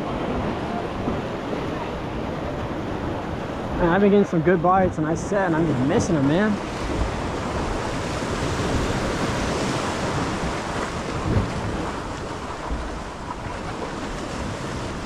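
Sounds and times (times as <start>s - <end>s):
surf washing against rocks: 0.0s - 15.0s
wind buffeting microphone: 0.0s - 15.0s.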